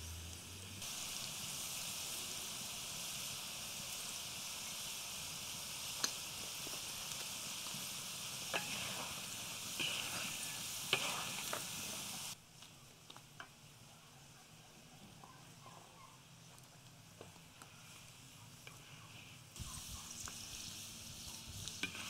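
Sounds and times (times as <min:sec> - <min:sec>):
potatoes frying in oil: 0:00.0 - 0:13.9, 0:16.4 - 0:22.0.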